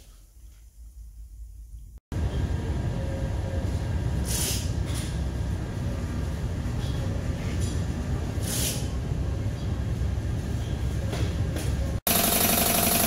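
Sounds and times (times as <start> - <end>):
spray booth air flow rumble: 2.2 - 13.0.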